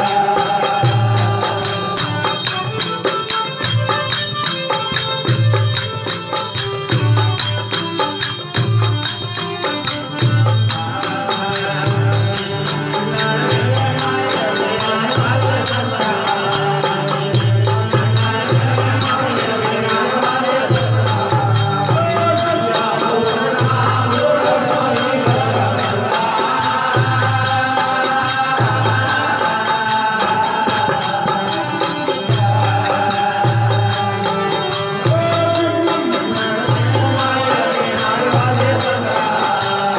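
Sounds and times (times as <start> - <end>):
folk devotional music: 0.0 - 39.9
jingling percussion: 0.0 - 39.9.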